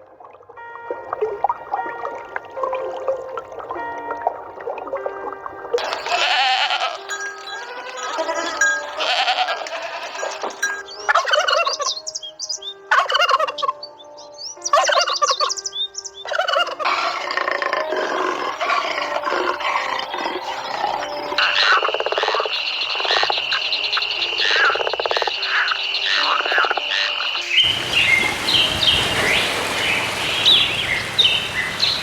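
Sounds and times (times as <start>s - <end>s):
background music slow melody: 0.0s - 32.0s
bird calls: 5.8s - 32.0s.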